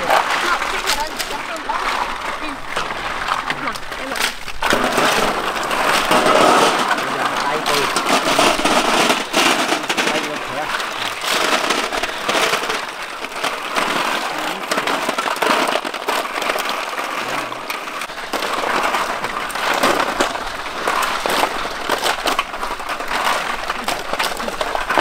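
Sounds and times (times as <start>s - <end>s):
snail shells clicking in metal basin: 0.0s - 25.0s.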